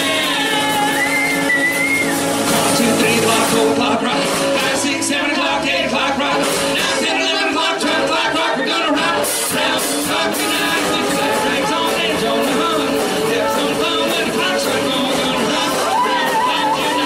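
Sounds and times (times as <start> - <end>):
women singing: 0.0 - 1.6, 2.5 - 17.0
drums with cymbal hits: 0.0 - 7.2, 9.0 - 17.0
guitar: 0.0 - 17.0.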